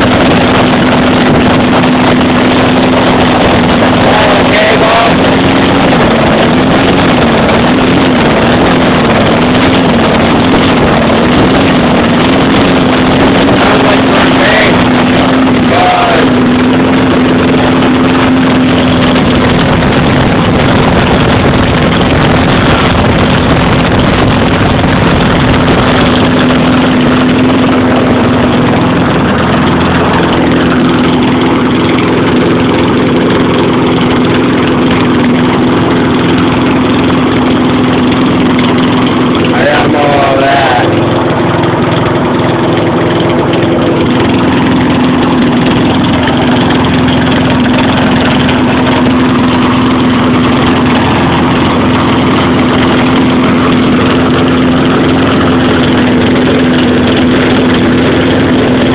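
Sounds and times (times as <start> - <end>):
lawn mower engine running: 0.0 - 58.9.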